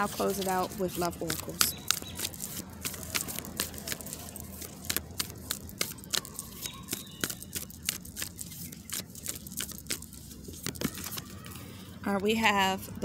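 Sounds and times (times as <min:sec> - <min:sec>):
cards being shuffled: 0:00.0 - 0:11.7.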